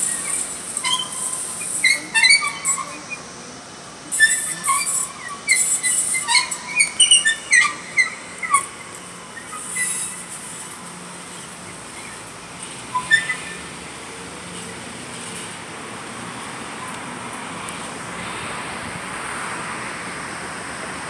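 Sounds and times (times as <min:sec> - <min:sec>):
faint train hum: 0:00.0 - 0:21.0.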